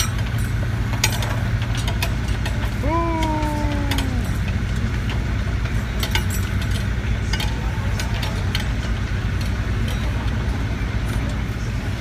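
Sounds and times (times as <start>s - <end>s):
excavator engine droning: 0.0s - 12.0s.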